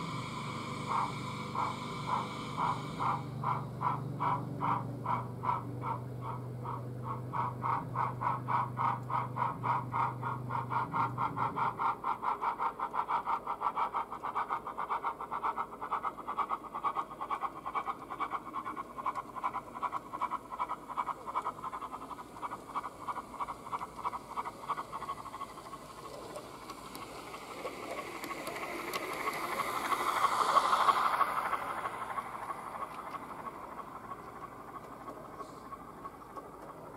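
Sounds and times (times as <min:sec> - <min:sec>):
model steam engine chuffing: 0:00.0 - 0:36.9
model train running past: 0:00.0 - 0:36.9.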